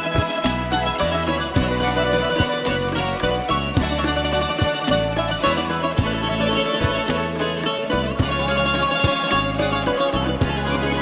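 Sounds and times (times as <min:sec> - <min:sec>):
plucked bouzouki music: 0:00.0 - 0:11.0
rhythmic bass pulse: 0:00.0 - 0:11.0.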